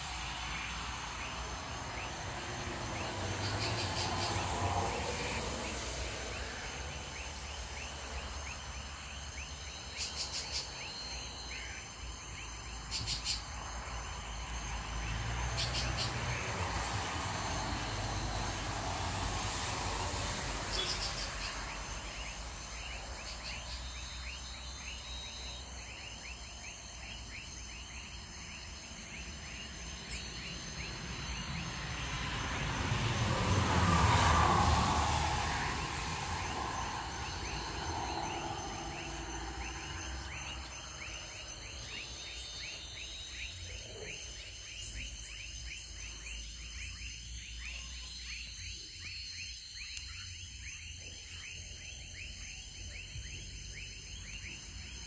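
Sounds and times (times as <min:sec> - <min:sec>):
insects and frogs trilling: 0:00.0 - 0:55.0.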